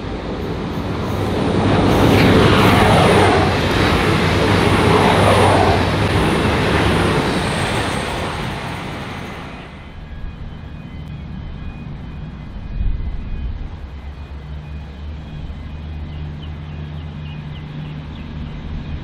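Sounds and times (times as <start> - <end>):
diesel train passing at speed: 0.0 - 19.0.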